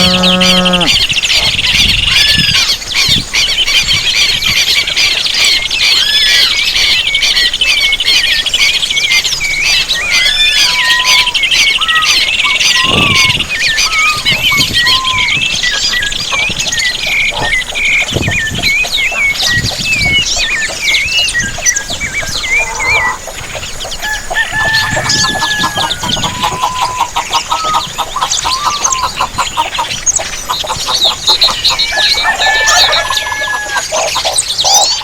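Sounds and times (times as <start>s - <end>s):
small birds chirping and whistling: 0.0s - 35.0s.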